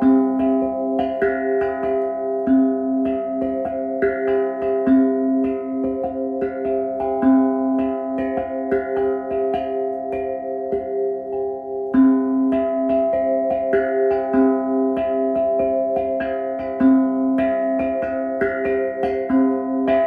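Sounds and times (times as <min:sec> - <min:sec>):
instrumental background music: 0:00.0 - 0:20.0
plucked notes: 0:00.0 - 0:20.0.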